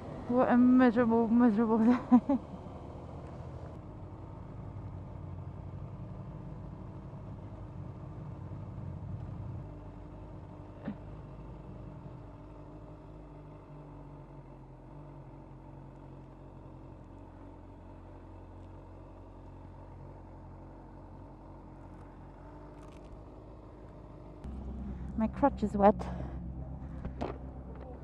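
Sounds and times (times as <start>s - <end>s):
motorcycle engine low rumble: 0.0s - 28.0s.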